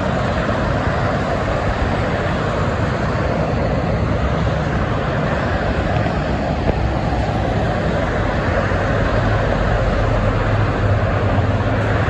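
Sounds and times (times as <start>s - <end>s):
heavy traffic passing: 0.0s - 12.0s.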